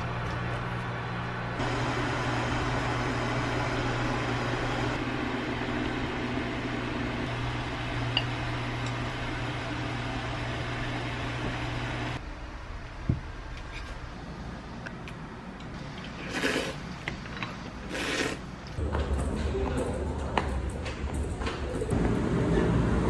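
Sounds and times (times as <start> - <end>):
kitchen fan whirring: 0.0 - 23.0.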